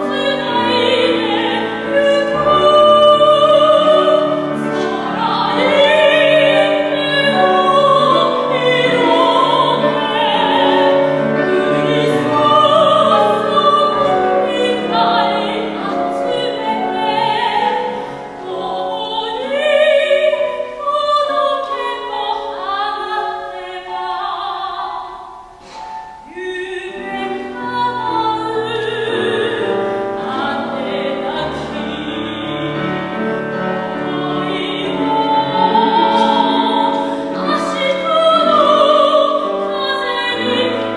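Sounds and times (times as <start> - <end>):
grand piano: 0.0 - 40.9
soprano singing: 0.0 - 40.9.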